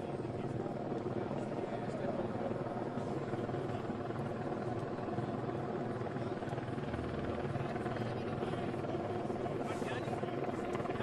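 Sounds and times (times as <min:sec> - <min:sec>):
helicopter rotor drone: 0:00.0 - 0:11.0.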